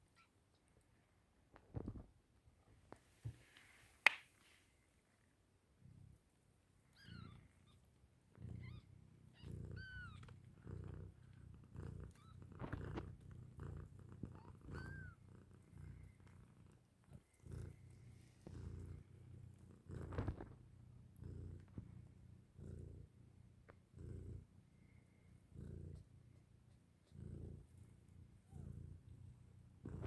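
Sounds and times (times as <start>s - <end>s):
cat purring: 1.5s - 3.4s, 4.8s - 30.0s.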